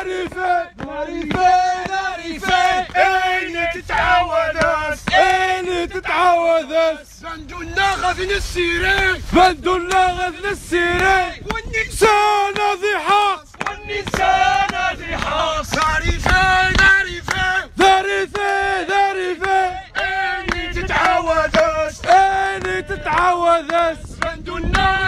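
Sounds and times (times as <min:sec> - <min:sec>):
person chanting sung phrases: 0:00.0 - 0:25.0.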